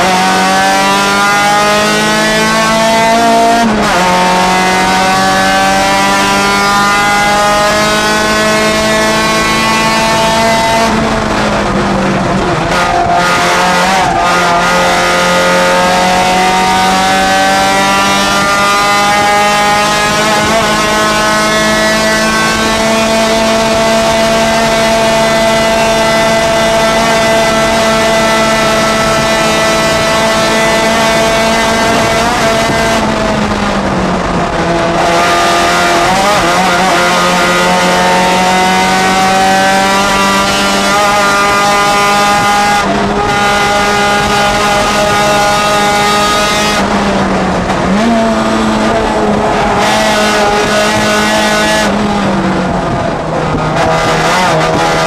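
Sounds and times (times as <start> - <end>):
race car engine high revs: 0.0 - 55.0.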